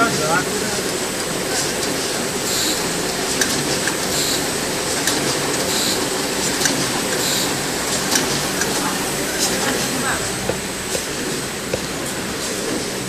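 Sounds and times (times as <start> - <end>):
machine hiss: 0.0 - 13.0
machine whirring: 0.0 - 13.0.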